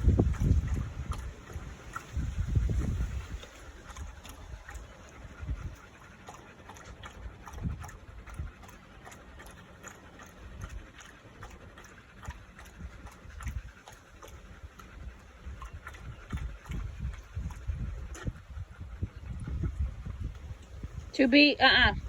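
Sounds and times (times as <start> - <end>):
dog lapping water: 0.0 - 22.0
low rumbling: 0.0 - 22.0.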